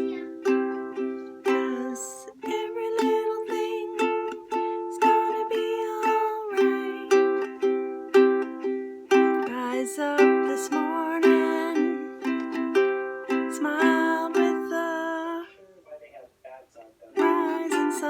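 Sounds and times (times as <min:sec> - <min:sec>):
strummed stringed instrument chords: 0:00.0 - 0:15.6, 0:17.2 - 0:18.0.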